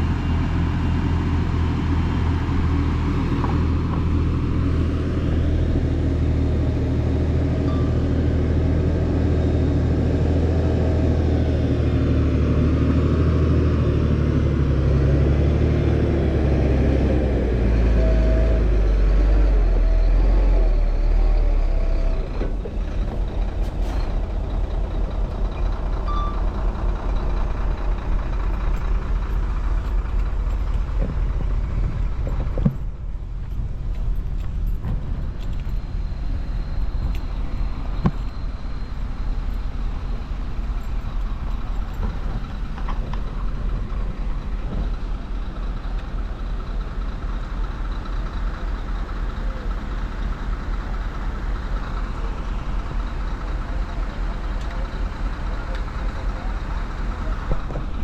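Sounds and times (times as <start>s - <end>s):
heavy diesel engine rumbling: 0.0s - 58.0s.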